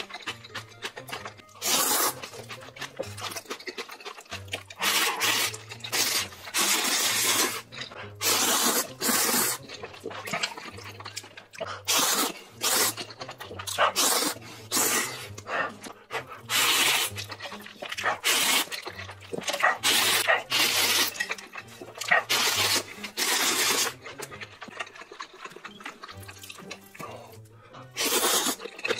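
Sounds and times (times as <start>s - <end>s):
man slurping noodles: 1.5s - 3.4s, 4.1s - 25.5s, 26.1s - 28.9s.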